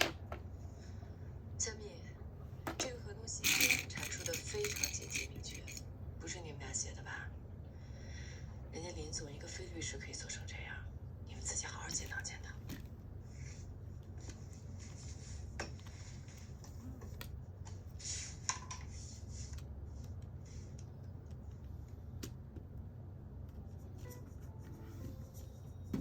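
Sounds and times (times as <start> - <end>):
steady low hum: 0.1 - 26.0.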